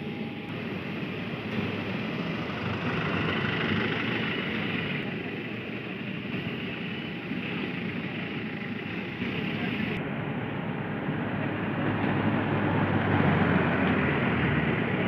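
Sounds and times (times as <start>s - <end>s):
ground vehicles: 0.0s - 15.0s
jet airliners roaring: 0.0s - 15.0s.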